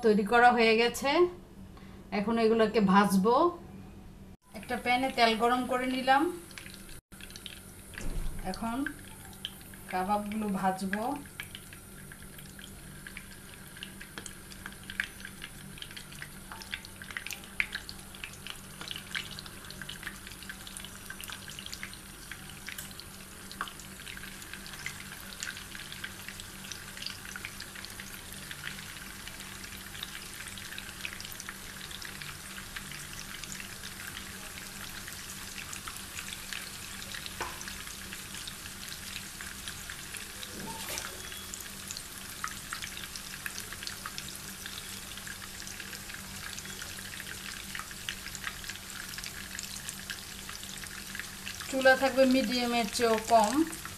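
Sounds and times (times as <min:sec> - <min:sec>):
meat sizzling in hot oil: 0:04.6 - 0:53.9.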